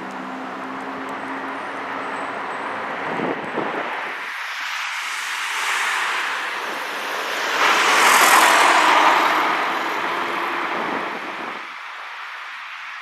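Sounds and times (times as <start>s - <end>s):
car passing by: 0.0s - 11.7s.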